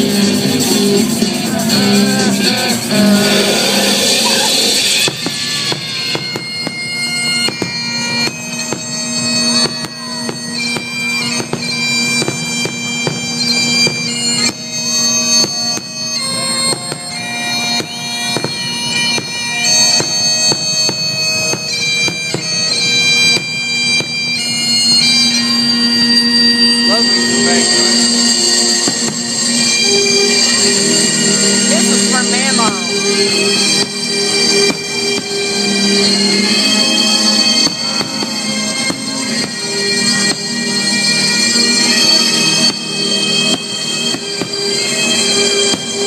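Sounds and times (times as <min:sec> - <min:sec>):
bagpipe chanter melody: 0:00.0 - 0:46.0
bagpipe drone: 0:00.0 - 0:46.0.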